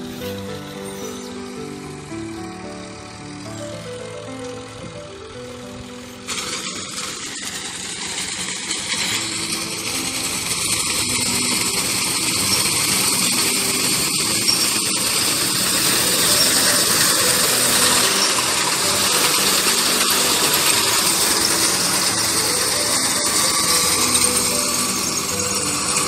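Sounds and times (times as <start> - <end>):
reaper cutting wheat: 0.0 - 26.0
tractor engine running: 0.0 - 26.0.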